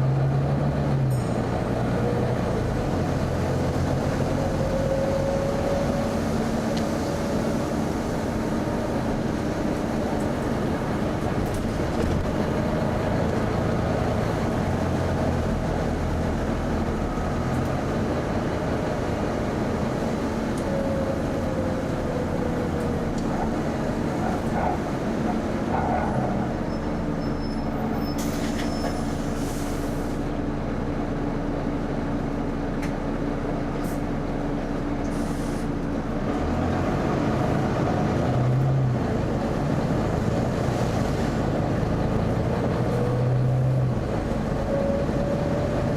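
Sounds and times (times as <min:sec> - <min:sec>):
bus engine hum: 0:00.0 - 0:45.9.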